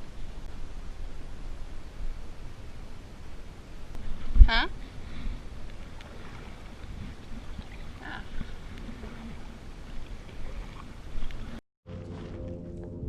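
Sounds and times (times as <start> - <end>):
paddle splashes: 0.0 - 12.8
water rushing: 0.0 - 12.8.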